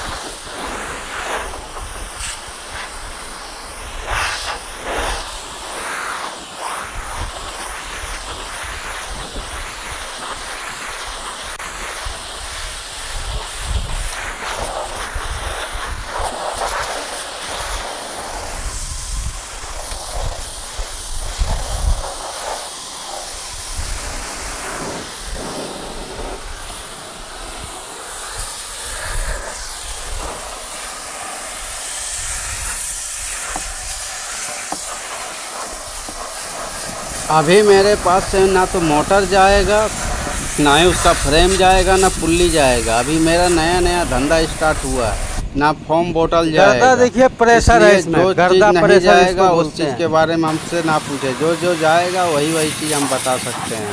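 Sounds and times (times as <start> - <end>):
pressure washer jet hissing: 0.0 - 53.9.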